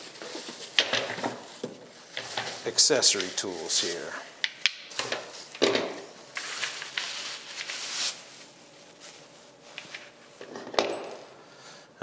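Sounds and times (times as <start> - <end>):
plastic racks rustling and scraping: 0.0 - 11.4.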